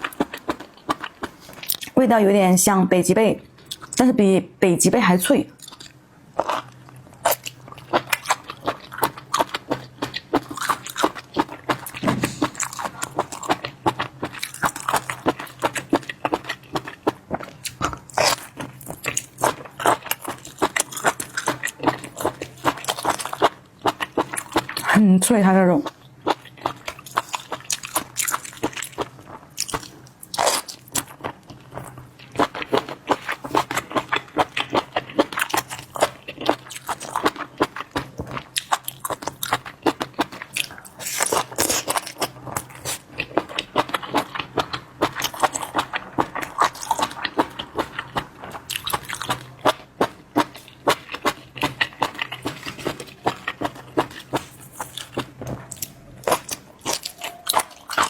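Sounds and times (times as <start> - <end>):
person chewing crunchy food: 0.0 - 2.0, 3.6 - 4.0, 5.5 - 25.0, 25.8 - 58.0.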